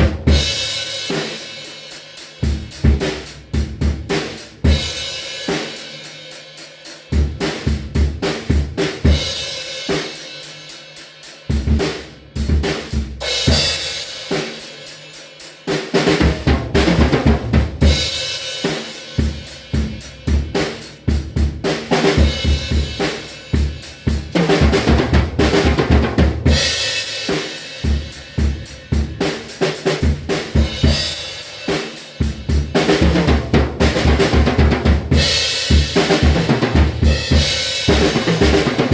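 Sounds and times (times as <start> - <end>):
drum kit beat: 0.0 - 38.9.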